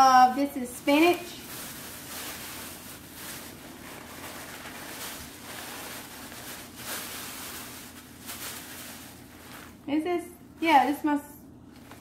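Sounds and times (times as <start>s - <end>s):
plastic bags crinkling: 0.4s - 10.0s, 11.7s - 12.0s.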